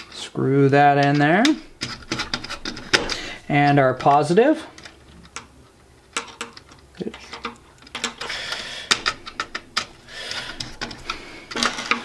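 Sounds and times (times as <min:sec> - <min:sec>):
wires scraping and rustling: 0:00.0 - 0:12.0.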